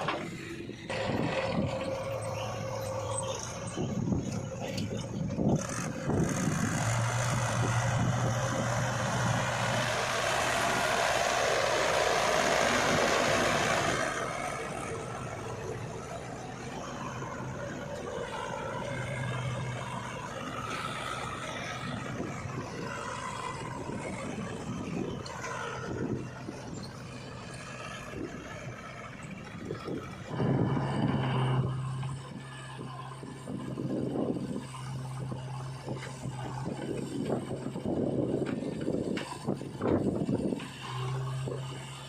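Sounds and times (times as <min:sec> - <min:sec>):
heavy diesel engines running: 0:00.0 - 0:42.0.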